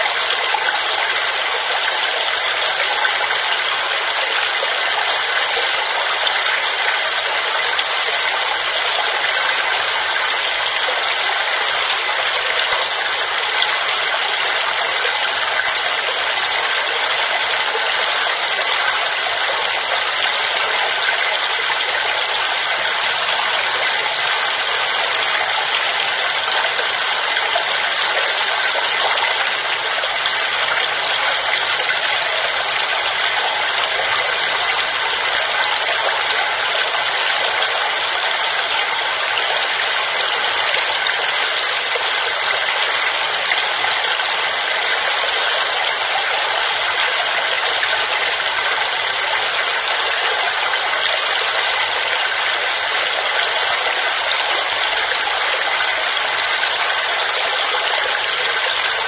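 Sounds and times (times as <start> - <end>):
waterfall pouring and splashing: 0.0 - 59.0.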